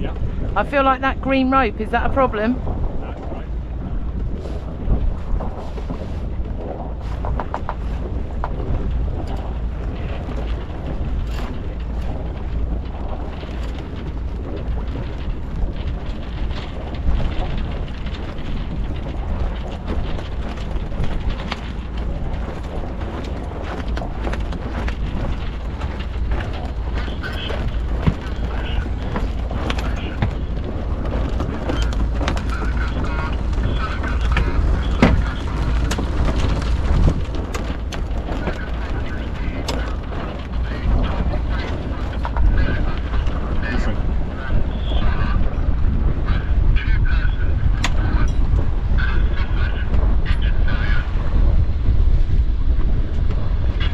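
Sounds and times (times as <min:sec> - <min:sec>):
low rumble: 0:00.0 - 0:53.9
wind buffeting microphone: 0:00.0 - 0:53.9.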